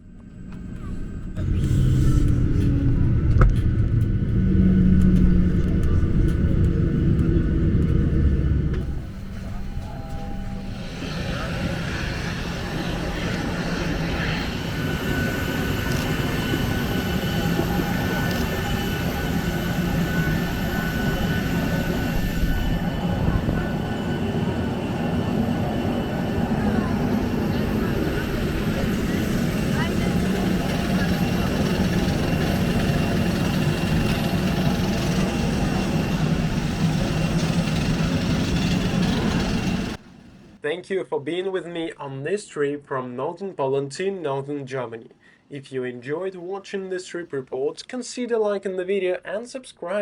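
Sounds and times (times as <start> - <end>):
jet engine high whine: 0.0 - 40.6
jet engines low rumble: 0.0 - 40.6
aircraft cabin hum: 0.1 - 40.6.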